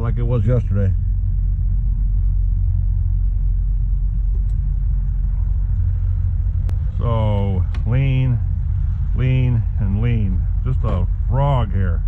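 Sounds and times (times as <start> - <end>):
model truck engine rumbling: 0.0 - 12.0.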